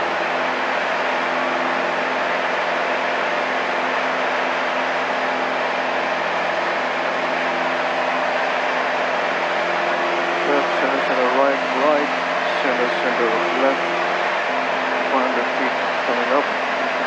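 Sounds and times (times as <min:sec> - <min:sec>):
light aircraft engine and propeller: 0:00.0 - 0:17.0.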